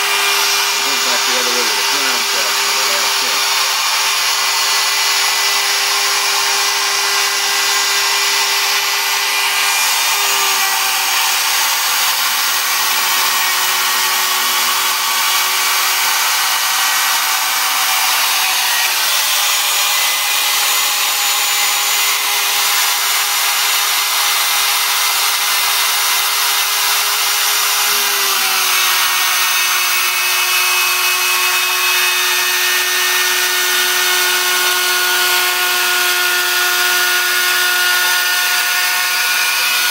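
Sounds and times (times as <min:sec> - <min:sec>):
cnc router spindle whine: 0:00.0 - 0:39.9
router bit cutting wood: 0:00.0 - 0:39.9.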